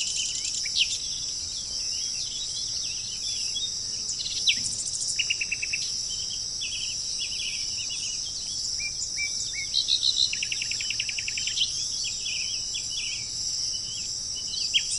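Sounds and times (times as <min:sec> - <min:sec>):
birds chirping and trilling: 0:00.0 - 0:14.9
insect chorus: 0:00.0 - 0:14.9.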